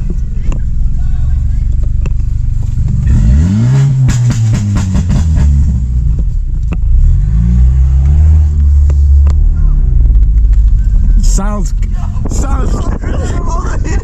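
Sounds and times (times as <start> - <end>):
car engine revving: 0.0 - 12.9
exhaust crackling and popping: 0.0 - 14.0.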